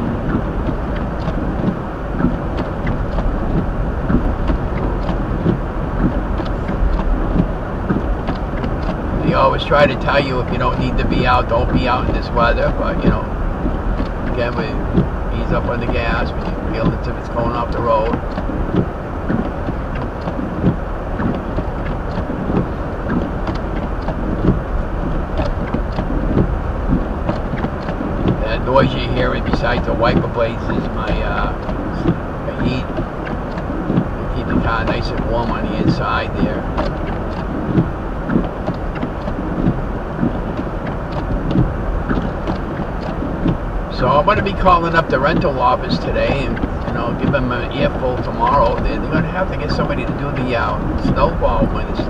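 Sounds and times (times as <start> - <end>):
tyres rumbling on snow: 0.0 - 52.0
windshield wipers: 0.0 - 52.0
small ticks and knocks: 0.3 - 9.0, 13.9 - 24.6, 25.3 - 48.8.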